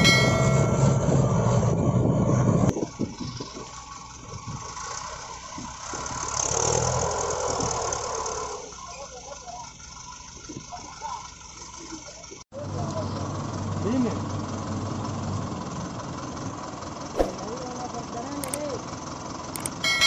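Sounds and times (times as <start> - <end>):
tractor diesel engines labouring: 0.0 - 20.0.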